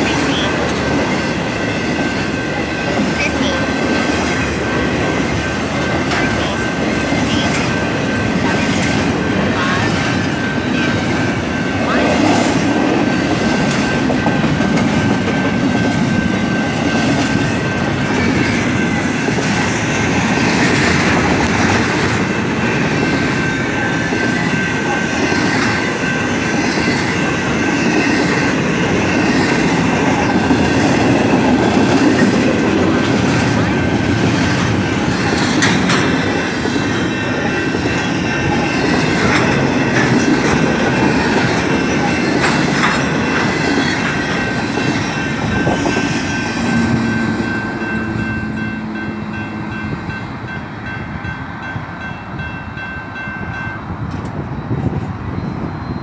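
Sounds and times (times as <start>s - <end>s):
train wheels rumbling over rails: 0.0s - 56.0s.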